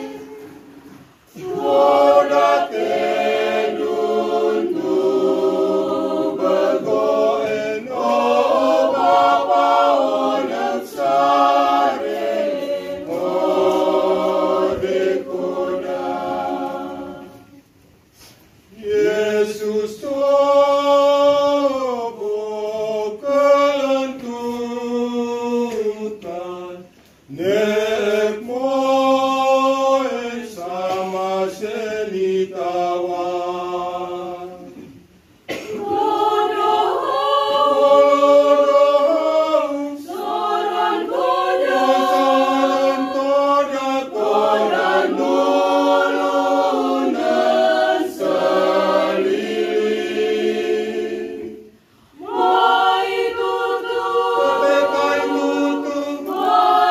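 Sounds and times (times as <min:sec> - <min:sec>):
choir singing a hymn: 0:00.0 - 0:56.9.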